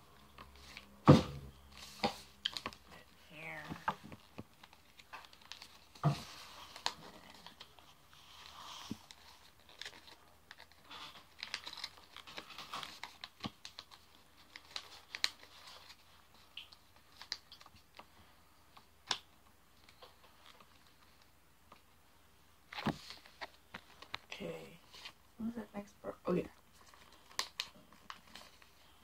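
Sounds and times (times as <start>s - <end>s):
paper rustling and crinkling: 0.3s - 22.0s, 22.6s - 25.3s, 26.5s - 29.0s.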